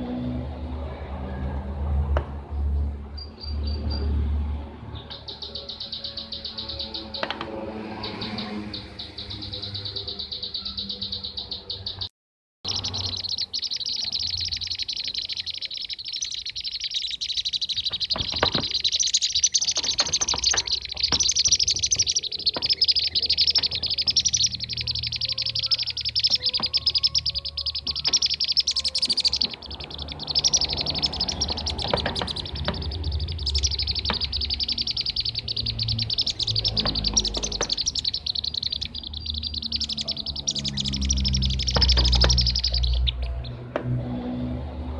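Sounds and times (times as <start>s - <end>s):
chorus of bird calls: 4.8s - 12.1s, 12.7s - 44.3s.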